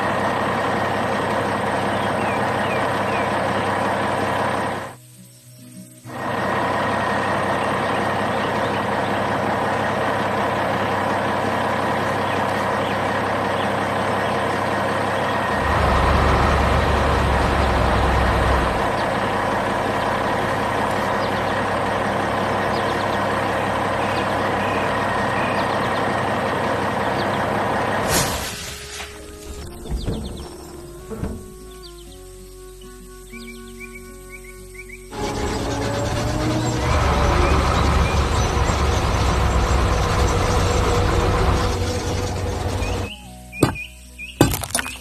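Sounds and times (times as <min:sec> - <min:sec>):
heavy vehicle engine running: 0:00.0 - 0:05.2, 0:05.9 - 0:33.5, 0:34.2 - 0:43.9.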